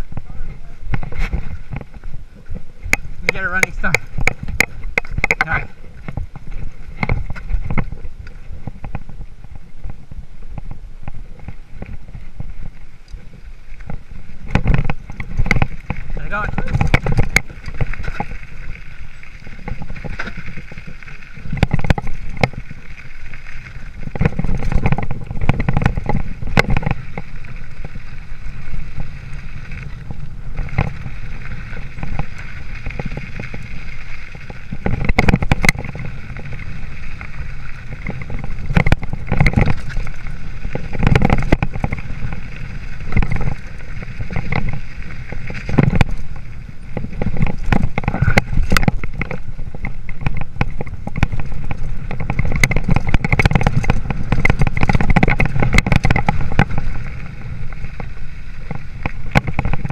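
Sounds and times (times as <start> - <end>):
bike knocks and rattles: 0.0 - 12.8, 13.8 - 59.9
bike rolling on dirt trail: 0.0 - 59.9.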